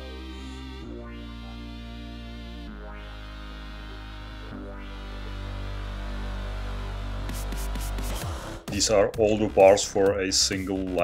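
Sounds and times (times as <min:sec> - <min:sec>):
background music chords: 0:00.0 - 0:11.0.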